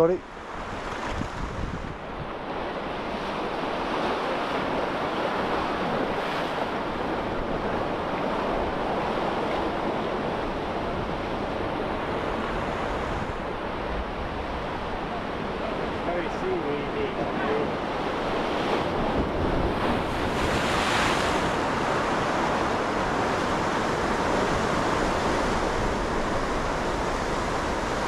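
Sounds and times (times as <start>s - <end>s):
sea surf washing over rocks: 0.0s - 28.0s
wind buffeting microphone: 0.0s - 28.0s.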